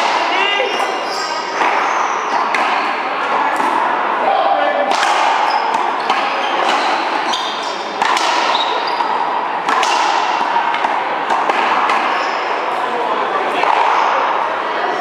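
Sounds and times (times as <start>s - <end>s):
racquetball hits echoing: 0.0s - 15.0s.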